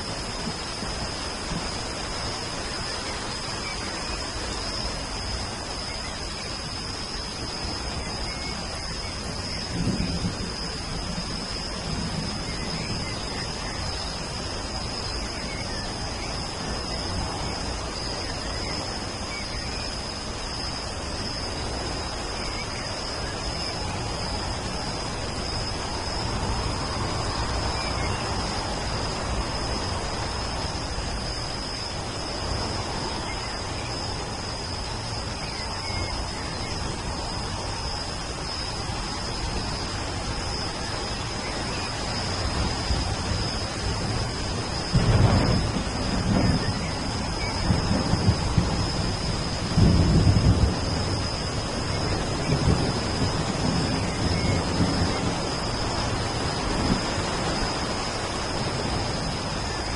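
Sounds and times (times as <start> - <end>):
constant high-pitched hum: 0.0 - 59.9
steady rain: 0.0 - 59.9
low rumble of thunder: 0.1 - 59.9.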